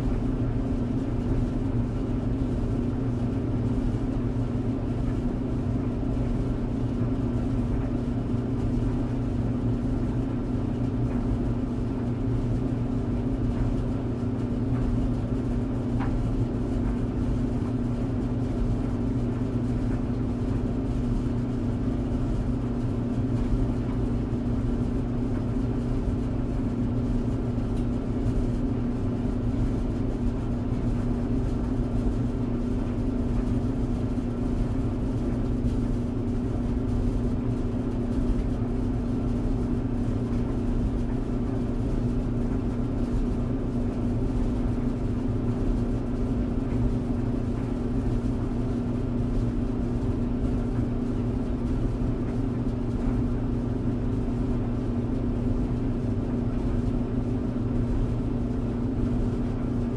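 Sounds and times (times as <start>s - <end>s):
tumble dryer humming: 0.0s - 59.9s.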